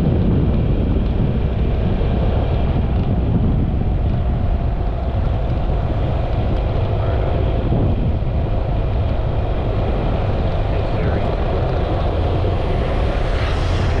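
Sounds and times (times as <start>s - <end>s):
scooter engine drone: 0.0s - 14.0s
wind and road noise: 0.0s - 14.0s.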